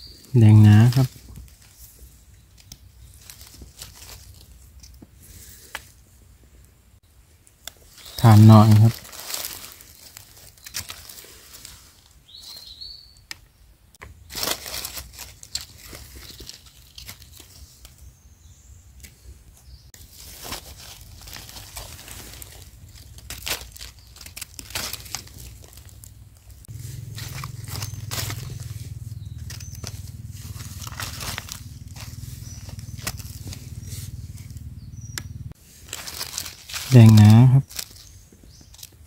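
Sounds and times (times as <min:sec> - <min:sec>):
dry leaves crackling: 0:00.0 - 0:06.0, 0:07.5 - 0:13.4, 0:14.0 - 0:18.5, 0:19.9 - 0:39.0.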